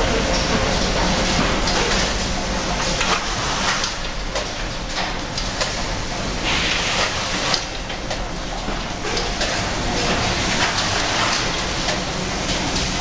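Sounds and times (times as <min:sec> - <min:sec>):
machine hiss and hum: 0:00.0 - 0:13.0.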